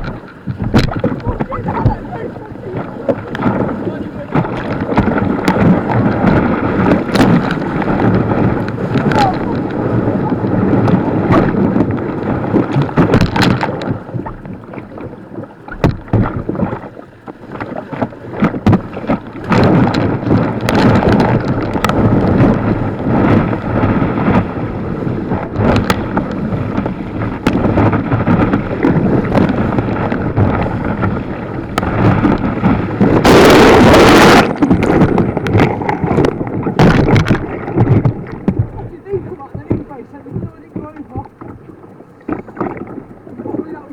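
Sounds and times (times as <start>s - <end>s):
splashes and knocks: 0.0s - 41.7s
white water rushing: 0.0s - 43.9s
wind buffeting microphone: 0.0s - 43.9s.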